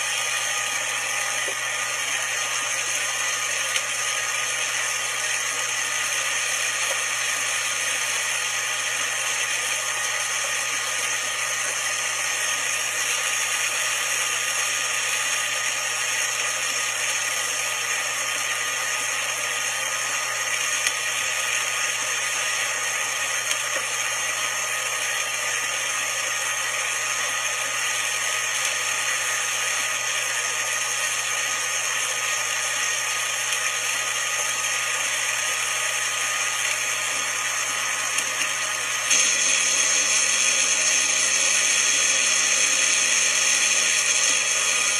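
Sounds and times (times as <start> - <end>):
blender motor running: 0.0 - 44.9.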